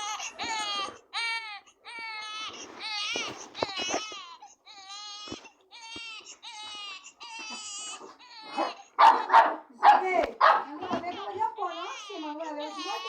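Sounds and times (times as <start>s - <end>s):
baby crying: 0.0s - 9.0s, 10.7s - 13.0s.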